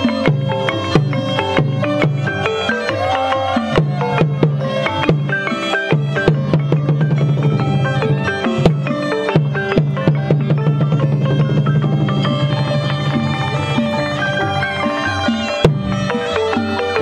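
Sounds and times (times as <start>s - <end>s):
drum beats: 0.0s - 17.0s
struck melodic notes: 0.0s - 17.0s.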